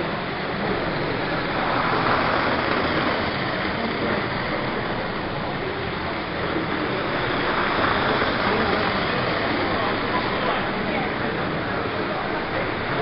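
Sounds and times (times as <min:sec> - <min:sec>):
crowd talking indistinctly: 0:00.0 - 0:13.0.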